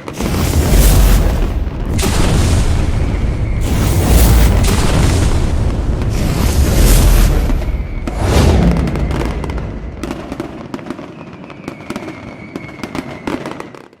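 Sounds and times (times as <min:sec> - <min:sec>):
firework booms: 0:00.0 - 0:13.9
firework crackling pops: 0:00.0 - 0:14.0.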